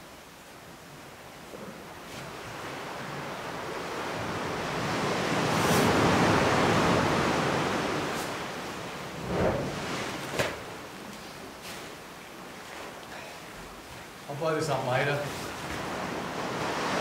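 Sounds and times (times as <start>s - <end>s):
ocean surf in a cave: 0.0s - 17.0s.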